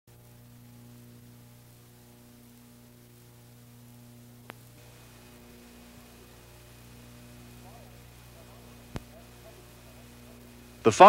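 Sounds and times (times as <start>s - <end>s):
faint high steady tone: 0.1s - 11.0s
faint hiss: 0.1s - 11.0s
low electrical hum: 0.1s - 11.0s.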